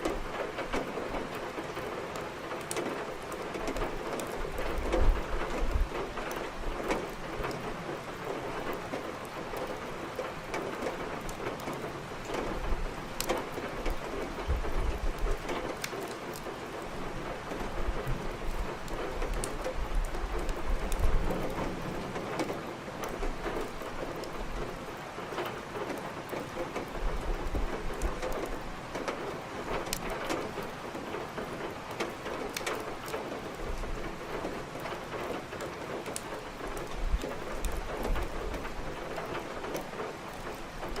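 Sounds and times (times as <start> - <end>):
heavy rain: 0.0 - 41.0
firewood crackling: 0.1 - 21.2, 27.8 - 41.0.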